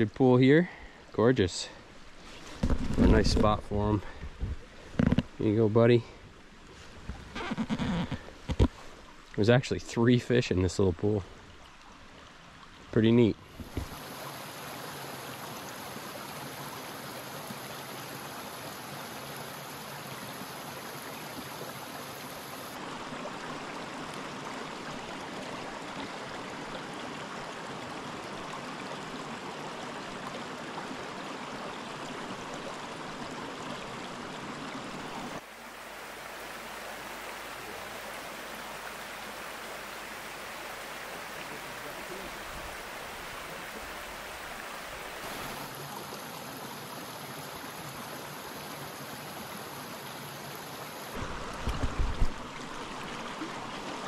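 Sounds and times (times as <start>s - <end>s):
brook water rushing: 0.0s - 54.0s.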